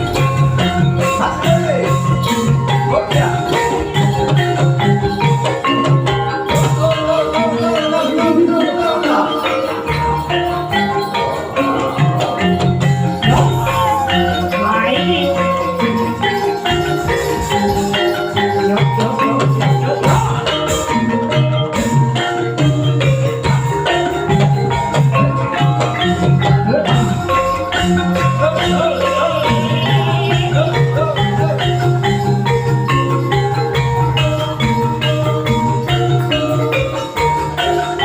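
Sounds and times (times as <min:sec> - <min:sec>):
dense percussion: 0:00.0 - 0:38.0
gamelan metallophones ringing: 0:00.0 - 0:38.0
gliding melodic line: 0:00.0 - 0:38.0.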